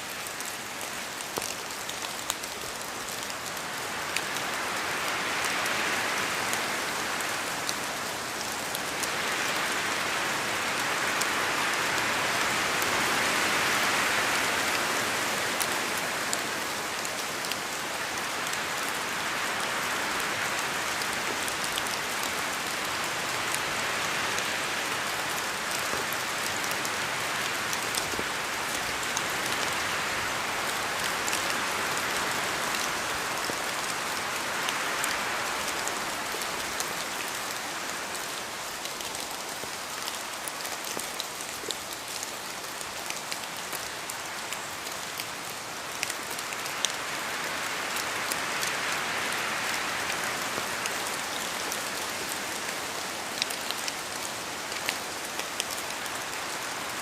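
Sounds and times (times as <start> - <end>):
rain falling in a forest: 0.0 - 57.0
wind gusting through trees: 0.0 - 57.0
raindrops ticking close by: 0.1 - 5.7, 15.5 - 57.0.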